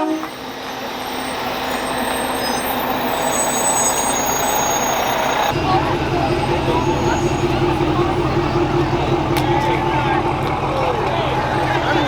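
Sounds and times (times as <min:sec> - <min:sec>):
truck engine running: 0:00.1 - 0:12.0.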